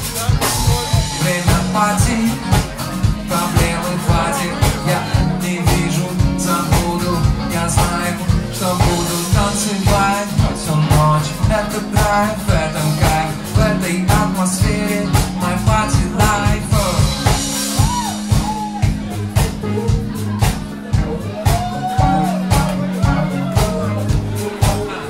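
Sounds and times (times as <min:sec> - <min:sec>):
bass: 0:00.0 - 0:25.0
drum kit beat: 0:00.0 - 0:25.0
electric keyboard: 0:00.0 - 0:25.0
man singing: 0:00.0 - 0:25.0.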